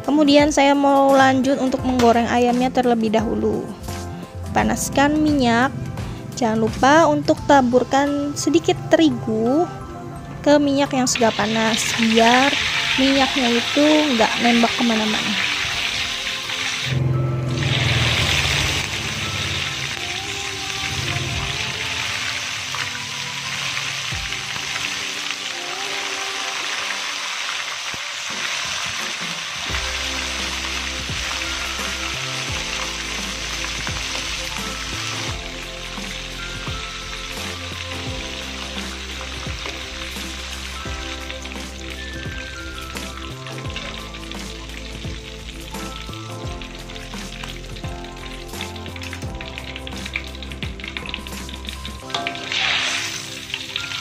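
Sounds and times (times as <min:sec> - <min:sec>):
background music: 0:00.0 - 0:54.0
chicken sizzling in hot oil: 0:10.7 - 0:54.0.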